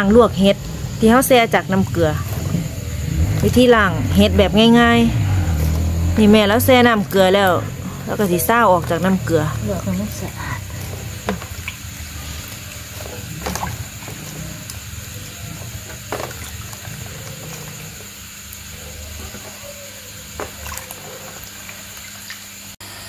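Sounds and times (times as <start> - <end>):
water splashing and dripping: 0.0 - 22.8.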